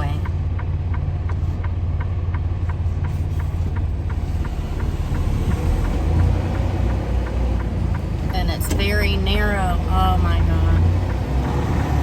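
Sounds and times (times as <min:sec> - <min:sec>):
diesel engine droning: 0:00.0 - 0:12.0
turn signal clicking: 0:00.0 - 0:12.0.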